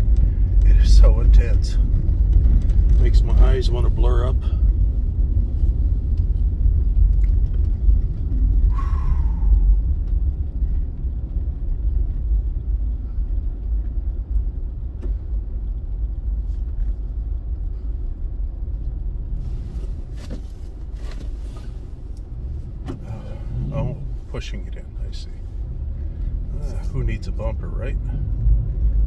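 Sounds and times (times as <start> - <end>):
engine and tyres rumbling: 0.0 - 29.0.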